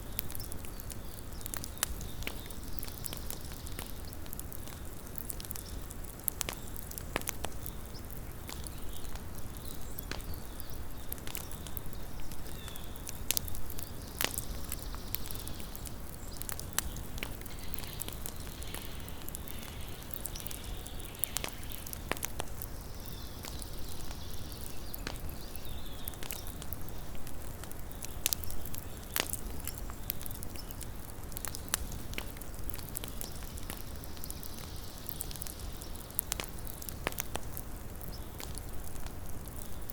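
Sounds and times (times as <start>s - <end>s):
campfire crackling and popping: 0.0s - 39.9s
rumble of burning flames: 0.0s - 39.9s.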